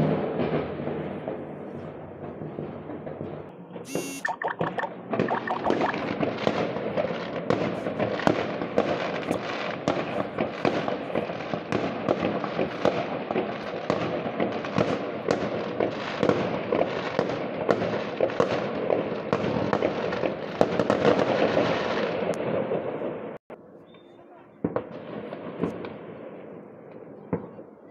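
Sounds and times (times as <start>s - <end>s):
fireworks and firecrackers bangs: 0.0s - 27.9s.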